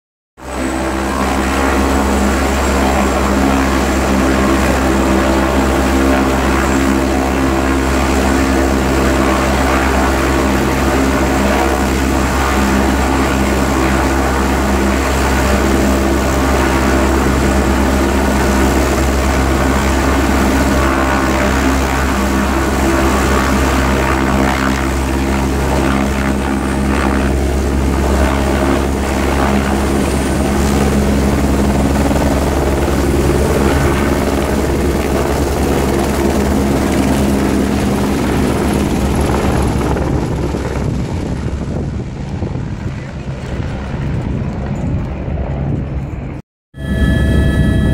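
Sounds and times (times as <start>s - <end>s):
helicopter turbine and rotor drone: 0.4s - 47.9s.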